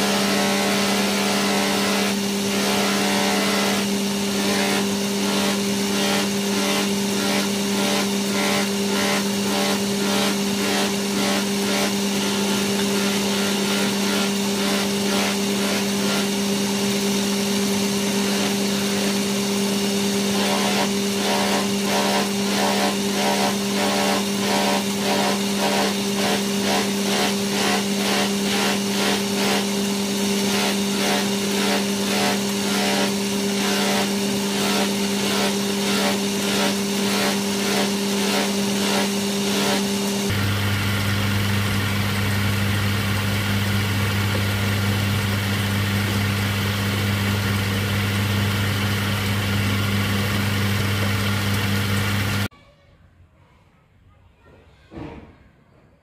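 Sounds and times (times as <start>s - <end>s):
electric motor humming: 0.0s - 52.5s.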